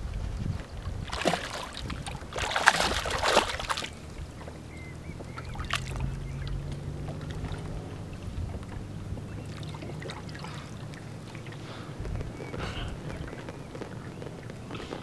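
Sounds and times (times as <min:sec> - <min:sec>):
fish splashing in water: 0:00.6 - 0:15.0.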